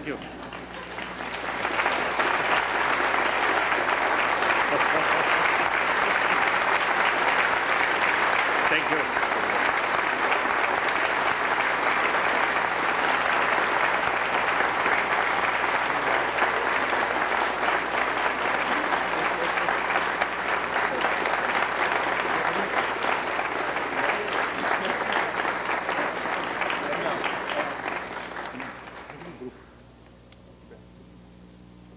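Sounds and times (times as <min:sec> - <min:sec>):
audience applauding: 0:00.0 - 0:29.6.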